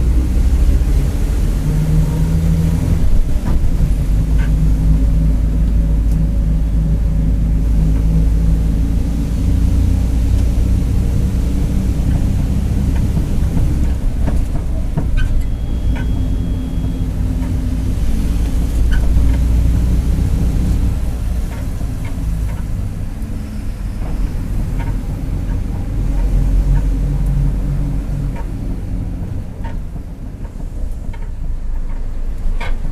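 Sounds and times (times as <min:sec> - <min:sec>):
bus diesel engine rumbling: 0:00.0 - 0:32.9
bus rattles and knocks: 0:00.0 - 0:32.9.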